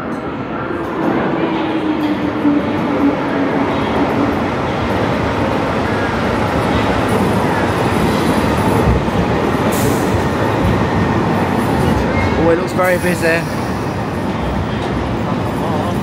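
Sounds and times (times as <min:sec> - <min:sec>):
train rushing and rumbling: 0:00.0 - 0:16.0.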